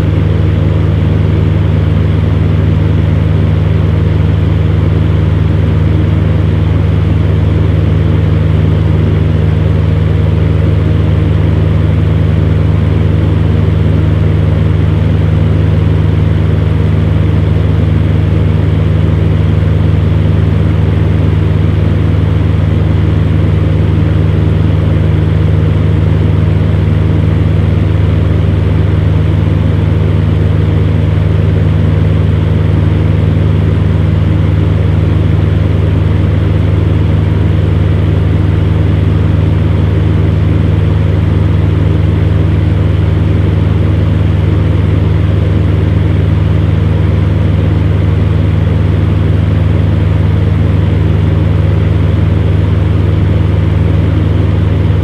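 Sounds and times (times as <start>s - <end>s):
fan heater running: 0.0s - 55.0s.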